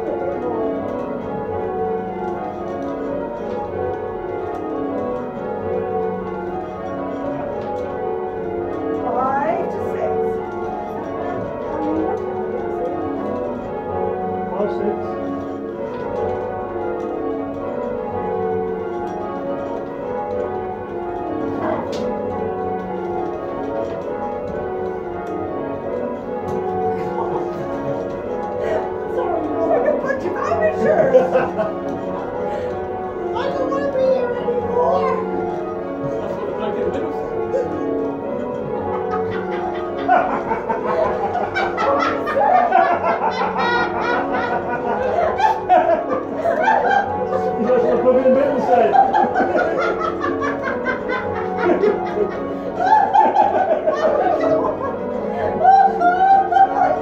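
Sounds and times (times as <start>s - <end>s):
church bells ringing: 0.0s - 57.0s.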